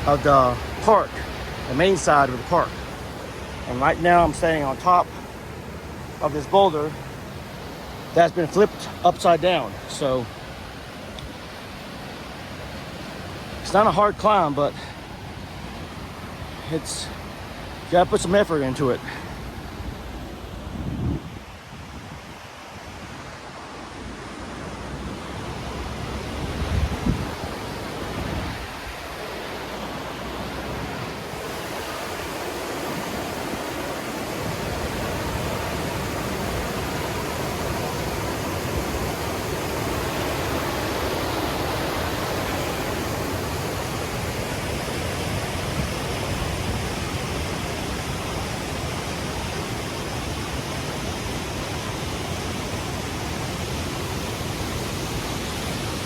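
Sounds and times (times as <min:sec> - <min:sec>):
rushing creek water: 0:00.0 - 0:56.0.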